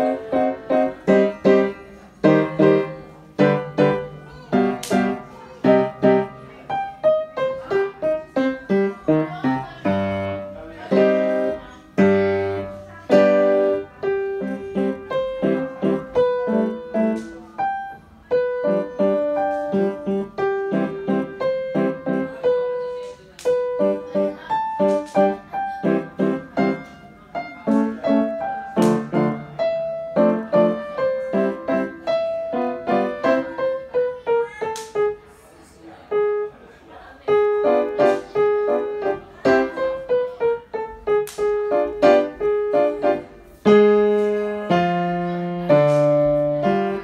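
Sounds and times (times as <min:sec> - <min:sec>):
upright piano playing: 0:00.0 - 0:36.6, 0:37.2 - 0:47.0.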